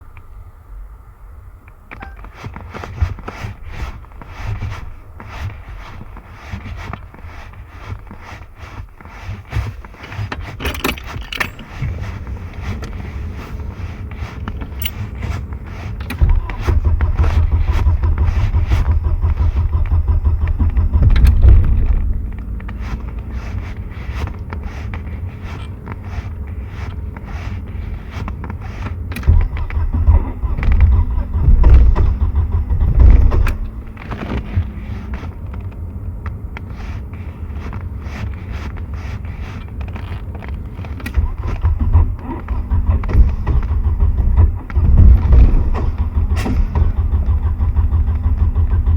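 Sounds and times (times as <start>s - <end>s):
car engine cranking: 1.7s - 48.9s.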